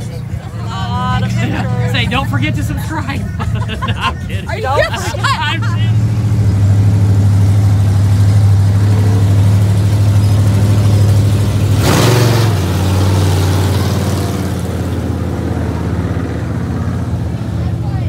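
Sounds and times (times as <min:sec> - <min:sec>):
truck engines rumbling: 0:00.0 - 0:18.0.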